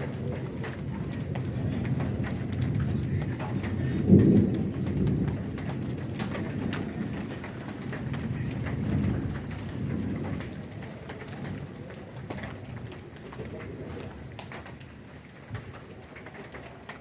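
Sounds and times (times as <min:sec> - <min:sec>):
rolling thunder: 0:00.0 - 0:15.8
heavy rain falling: 0:00.0 - 0:17.0
raindrops striking surfaces: 0:00.0 - 0:17.0.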